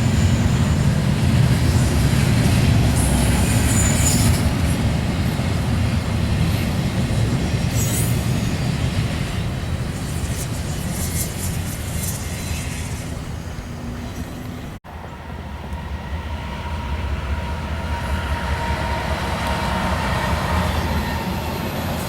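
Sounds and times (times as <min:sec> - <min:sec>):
freight train rumbling past: 0:00.0 - 0:22.0
train rumble: 0:00.0 - 0:22.0.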